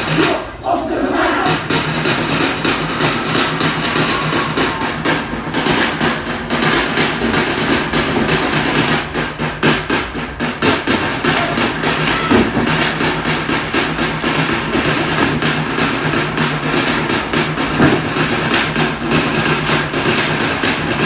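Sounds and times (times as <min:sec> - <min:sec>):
rhythmic hand clapping and slapping: 0:00.0 - 0:00.6, 0:01.5 - 0:21.0.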